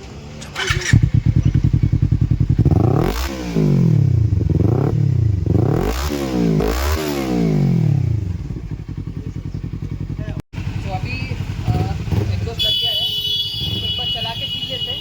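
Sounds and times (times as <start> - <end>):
motorcycle engine revving: 0.3 - 14.6.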